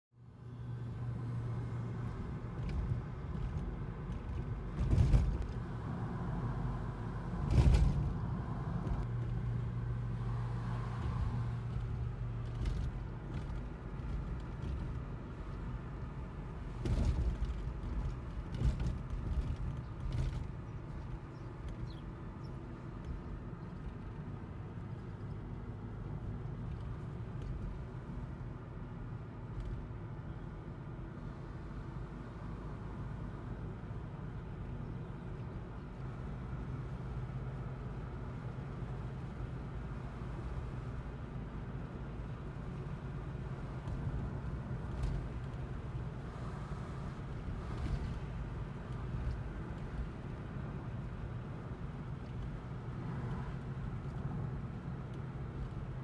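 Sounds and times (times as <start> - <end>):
car engine and tyre hum: 0.1 - 56.0.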